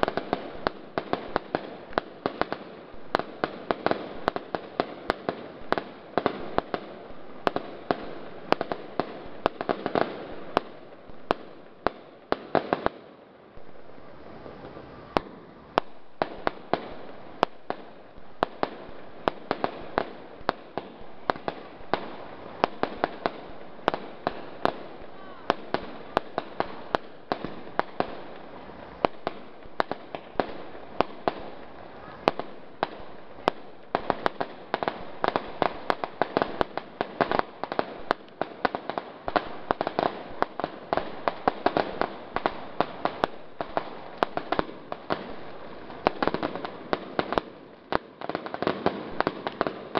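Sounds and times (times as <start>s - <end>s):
fireworks bangs: 0.0s - 49.9s
fireworks crackling: 0.0s - 49.9s.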